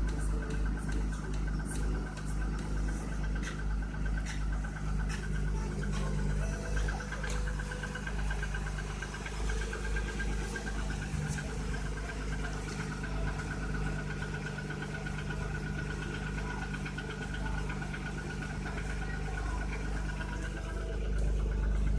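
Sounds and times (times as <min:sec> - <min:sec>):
car engine idling: 0:00.0 - 0:21.9
engine knocking: 0:00.0 - 0:21.9.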